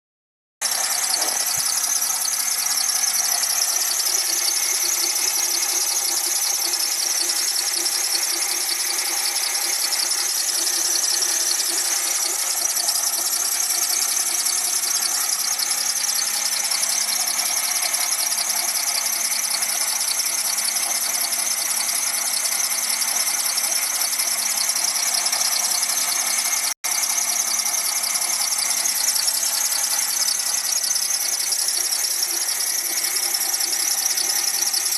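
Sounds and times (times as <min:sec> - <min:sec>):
car engine running: 0:00.6 - 0:34.9
high-pitched whistling squeal: 0:00.6 - 0:34.9.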